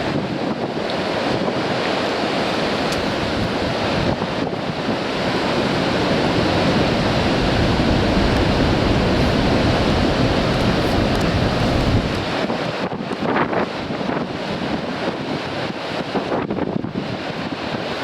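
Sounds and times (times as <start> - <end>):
surf breaking on rocks: 0.0 - 17.1
wind rumbling on microphone: 0.0 - 18.0.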